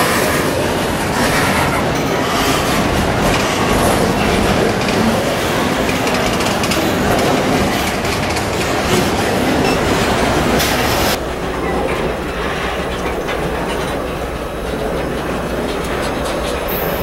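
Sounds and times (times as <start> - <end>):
freight train rumble: 0.0 - 17.0
freight train wagons rolling past: 0.0 - 17.0
train wheels knocking: 0.0 - 17.0.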